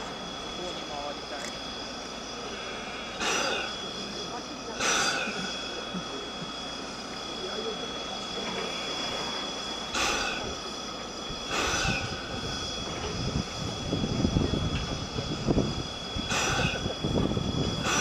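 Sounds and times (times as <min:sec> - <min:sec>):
steam locomotive rumble: 0:00.0 - 0:18.0
steam hiss bursts: 0:00.9 - 0:18.0.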